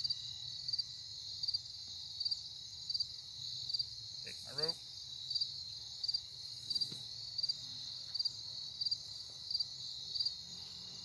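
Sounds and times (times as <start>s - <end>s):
high-pitched insect trill: 0.0s - 11.0s
insects pulsed high chirps: 0.0s - 11.0s.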